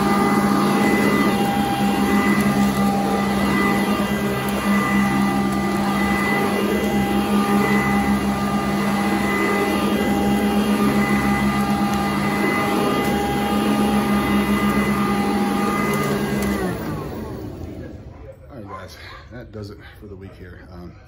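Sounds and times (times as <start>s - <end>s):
vacuum cleaner running: 0.0s - 18.7s.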